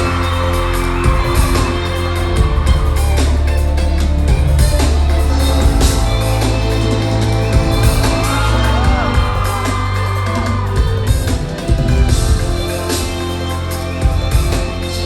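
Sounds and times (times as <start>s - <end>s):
audience screaming and whooping: 0.0s - 15.0s
live pop band music: 0.0s - 15.0s.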